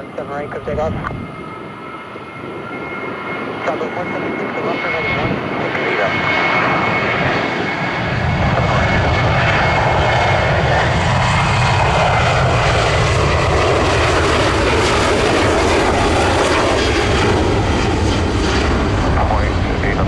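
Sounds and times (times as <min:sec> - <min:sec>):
jet engines rumbling at takeoff: 0:00.0 - 0:20.0.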